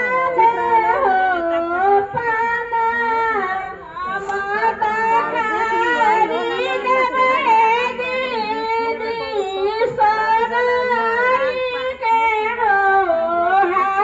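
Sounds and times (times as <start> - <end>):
women singing together: 0.0 - 14.0.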